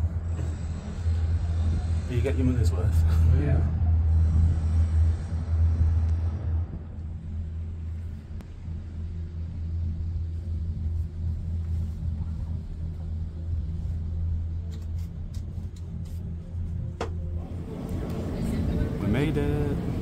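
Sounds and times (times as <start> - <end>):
cable car gondola hum: 0.0 - 20.0.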